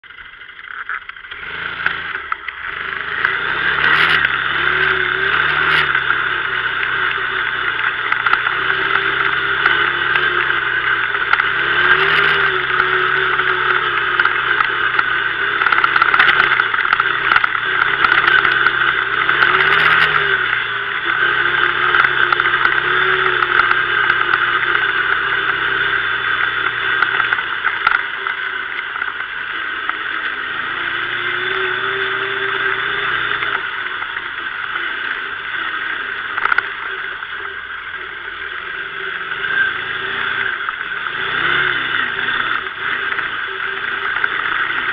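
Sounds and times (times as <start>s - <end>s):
quad bike engine running: 0.0s - 44.9s.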